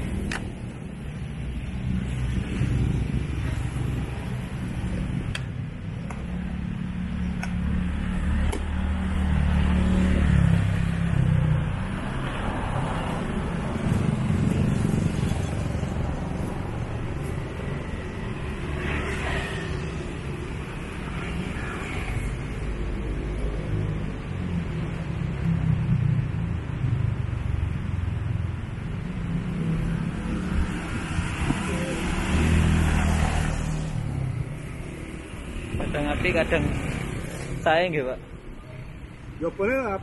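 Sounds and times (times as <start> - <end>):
street traffic rumble: 0.0 - 40.0.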